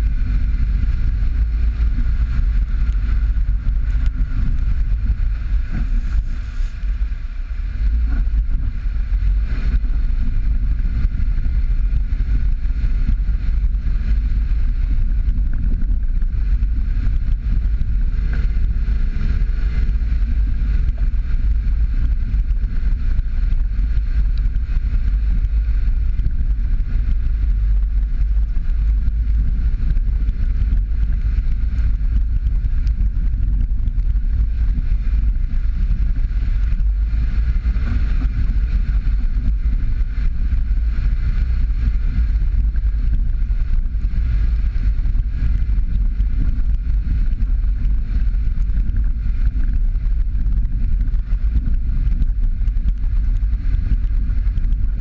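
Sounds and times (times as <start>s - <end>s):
car engine and tyres rumbling: 0.0s - 55.0s
wind buffeting microphone: 0.0s - 55.0s.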